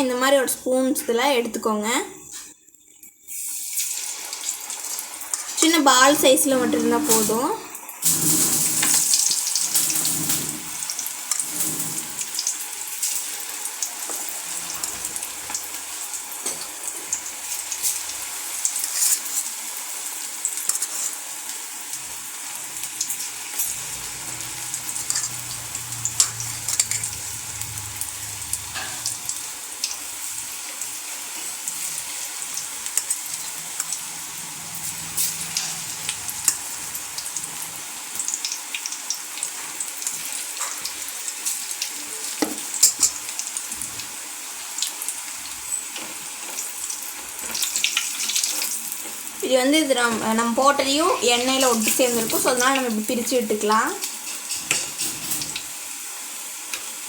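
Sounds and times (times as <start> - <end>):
batter deep-frying in hot oil: 0.0 - 57.0.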